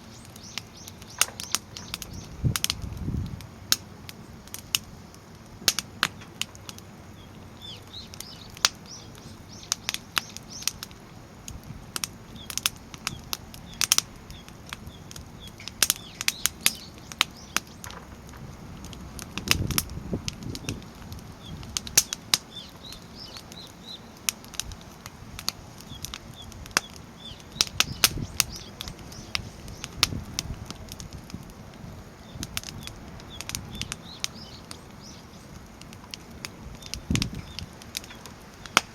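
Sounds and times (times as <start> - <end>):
flames rushing: 0.0 - 38.9
wood fire crackling and popping: 0.0 - 38.9.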